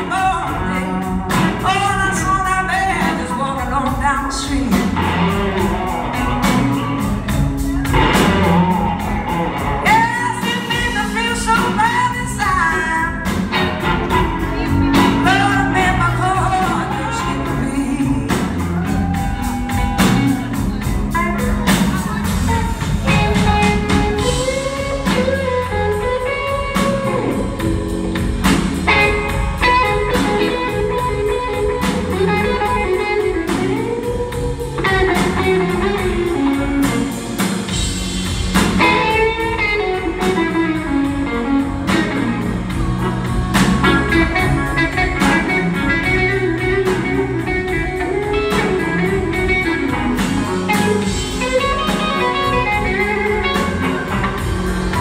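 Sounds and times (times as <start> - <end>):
electric guitar bending notes: 0.0 - 55.0
live blues band playing: 0.0 - 55.0.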